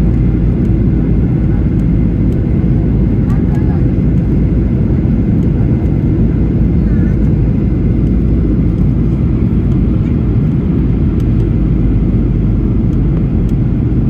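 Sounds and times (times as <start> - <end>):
jet airliner low roar: 0.0 - 14.0.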